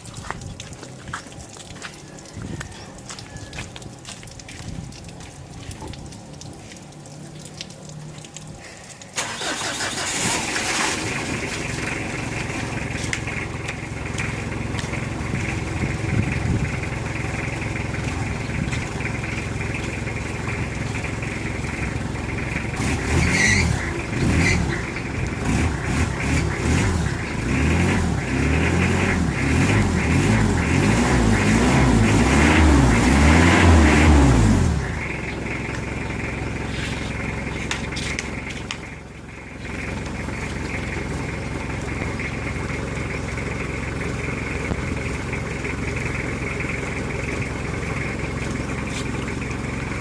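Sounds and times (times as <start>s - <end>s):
car engine starting and running: 5.8s - 50.0s.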